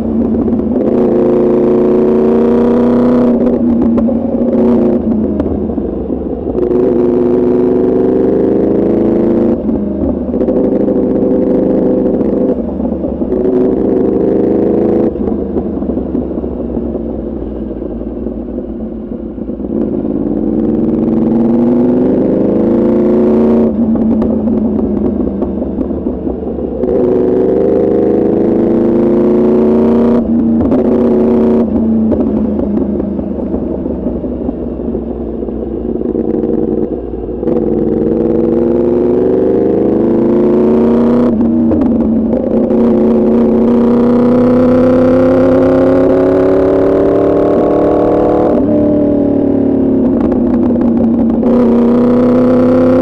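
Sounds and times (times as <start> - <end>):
motorcycle engine revving through gears: 0.0 - 53.0.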